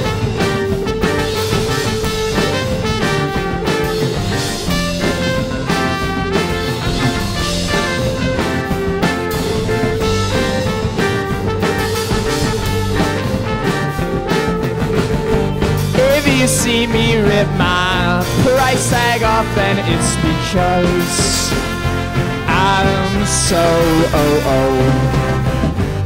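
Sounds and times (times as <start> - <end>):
rock band playing: 0.0 - 26.0
trumpet melody: 0.0 - 26.0.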